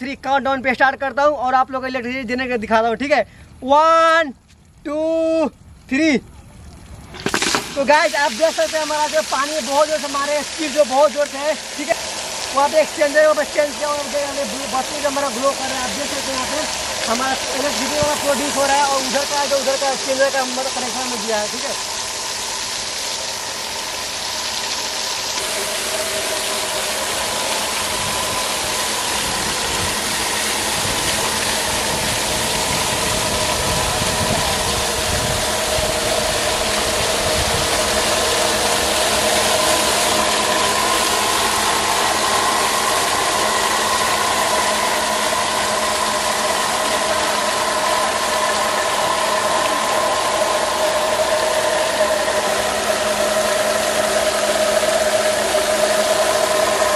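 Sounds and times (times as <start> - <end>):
steady hum: 0.0 - 56.9
water jet spraying: 6.2 - 56.9
whir of spinning wheel: 7.2 - 56.9.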